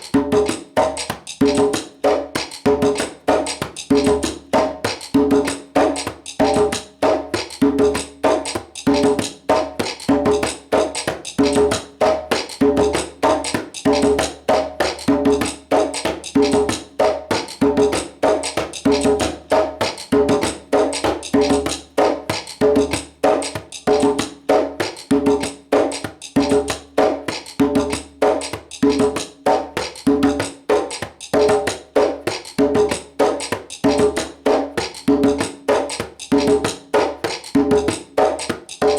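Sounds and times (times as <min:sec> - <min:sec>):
djembe drum pattern: 0:00.0 - 0:38.9
wooden click rhythm: 0:00.0 - 0:38.9.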